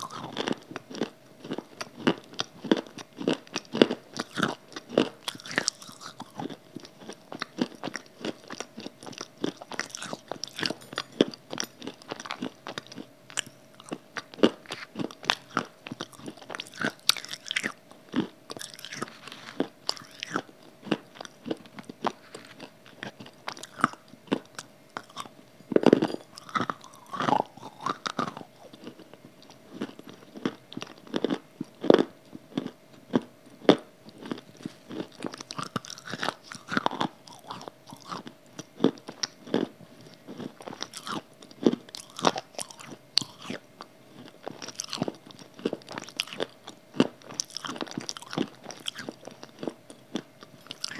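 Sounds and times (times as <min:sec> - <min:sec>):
crunching and chewing: 0:00.0 - 0:50.9
faint steady hum: 0:00.0 - 0:50.9.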